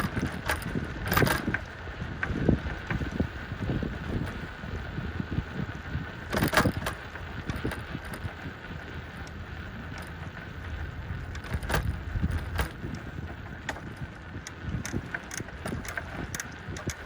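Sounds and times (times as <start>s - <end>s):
tyres rumbling on trail: 0.0s - 17.0s
wind buffeting microphone: 0.0s - 17.0s.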